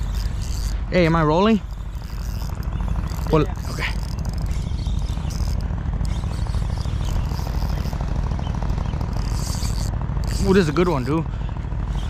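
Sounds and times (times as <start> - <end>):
fishing reel ticking: 0.0 - 11.2.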